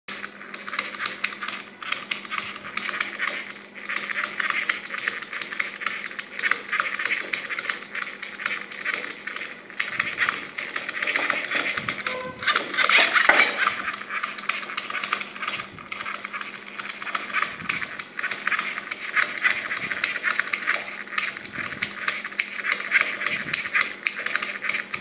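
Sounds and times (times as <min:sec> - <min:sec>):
small gear motor whirring: 0:00.1 - 0:25.0.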